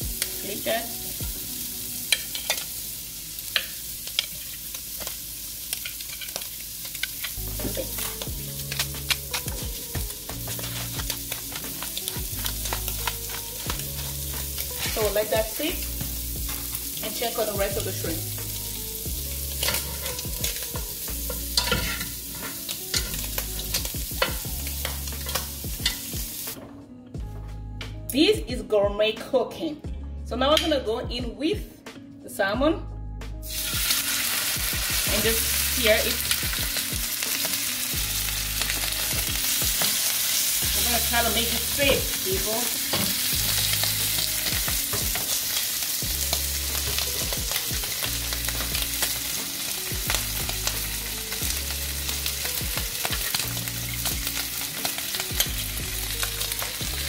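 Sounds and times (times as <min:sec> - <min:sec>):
shrimp sizzling in a pan: 0:00.0 - 0:26.6, 0:33.4 - 0:57.0.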